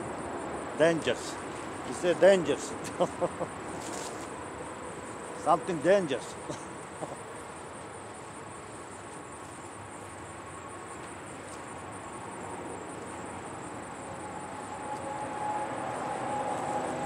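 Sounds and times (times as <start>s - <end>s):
insects chirping: 0.0s - 17.0s
road traffic drone: 0.0s - 17.0s
vehicle engine hum approaching: 0.0s - 17.0s.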